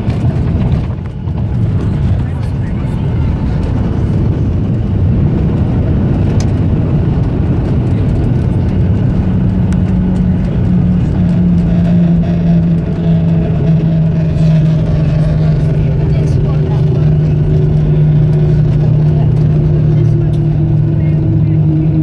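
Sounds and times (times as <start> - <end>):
jet airliner cabin rumble: 0.0 - 22.0
steady low hum with tones: 0.0 - 22.0.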